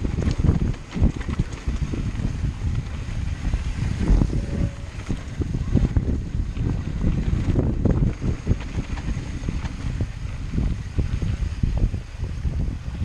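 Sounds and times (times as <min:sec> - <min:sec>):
low rumble: 0:00.0 - 0:13.0
wind buffeting microphone: 0:00.0 - 0:13.0.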